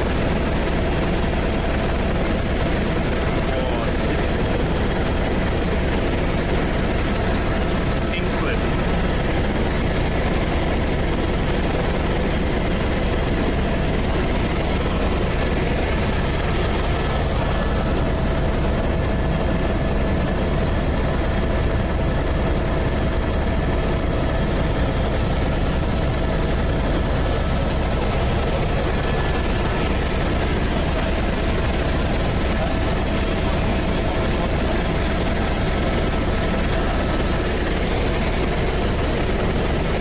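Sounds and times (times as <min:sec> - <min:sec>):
helicopter rotor and engine: 0:00.0 - 0:40.0.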